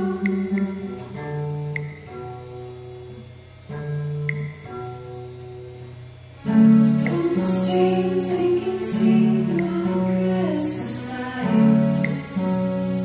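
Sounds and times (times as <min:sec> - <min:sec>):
background music with guitar: 0:00.0 - 0:13.0.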